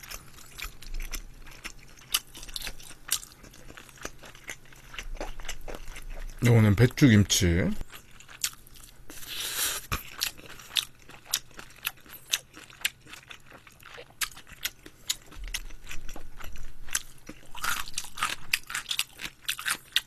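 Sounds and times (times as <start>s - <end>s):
chewing crunchy food: 0.0s - 20.0s.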